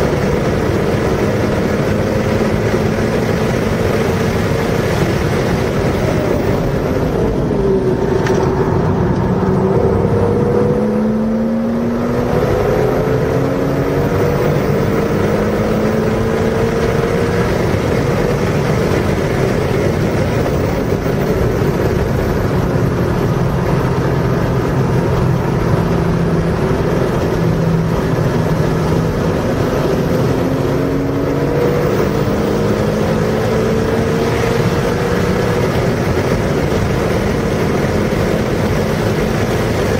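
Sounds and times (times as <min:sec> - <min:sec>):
car engine accelerating hard: 0:00.0 - 0:39.9
wind and road noise: 0:00.0 - 0:39.9.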